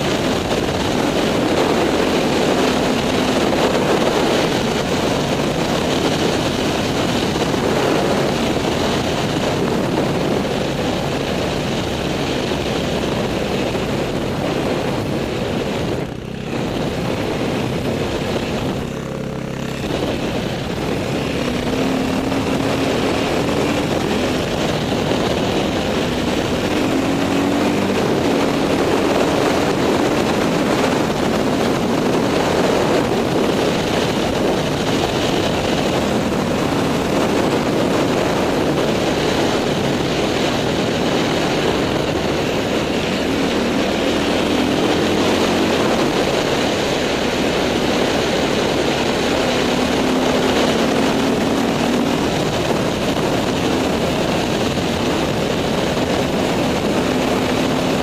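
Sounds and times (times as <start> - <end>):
dirt bike engine running: 0.0 - 58.0
wind noise on microphone: 0.0 - 58.0.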